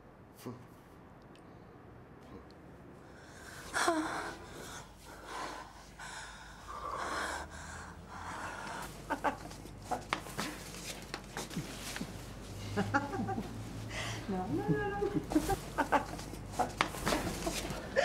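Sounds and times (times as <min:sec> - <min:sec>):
people breathing heavily and gasping: 0:03.0 - 0:18.0.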